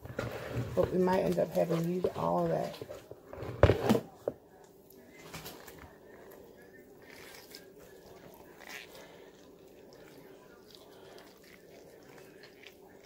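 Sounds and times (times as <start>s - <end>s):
wet rustling of cabbage leaves: 0.0s - 3.6s, 4.9s - 13.0s.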